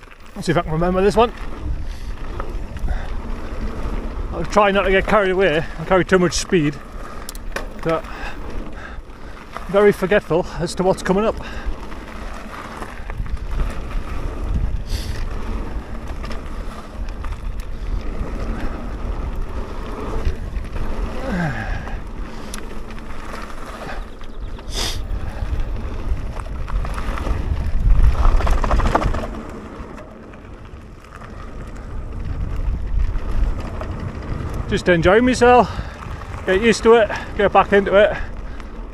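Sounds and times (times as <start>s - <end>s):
bike rattles and clicks: 0.0s - 38.9s
bike tyres rumbling over gravel: 0.0s - 38.9s
wind rushing over microphone: 0.0s - 38.9s.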